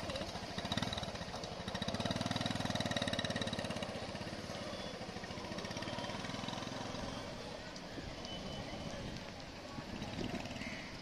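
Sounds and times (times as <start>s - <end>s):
small motorcycle engine puttering: 0.0s - 11.0s.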